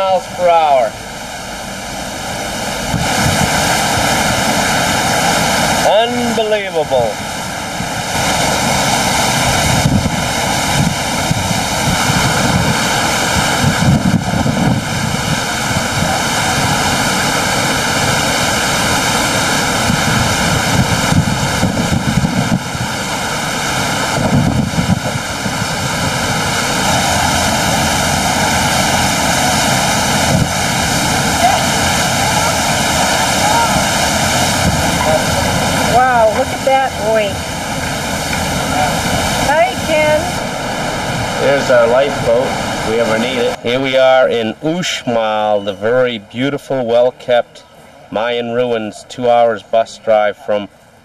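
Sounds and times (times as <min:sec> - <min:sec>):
wind buffeting microphone: 0:00.0 - 0:47.1
rush of wind and wake: 0:00.0 - 0:51.0.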